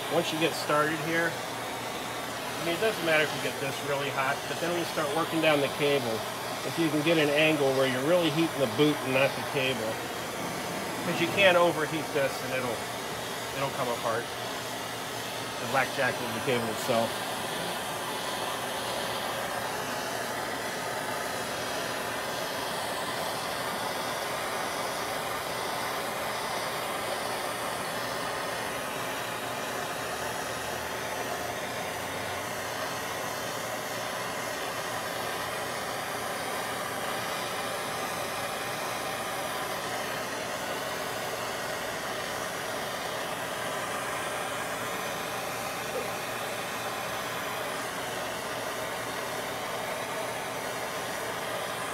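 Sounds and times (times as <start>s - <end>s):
gas torch hissing: 0.0s - 51.9s.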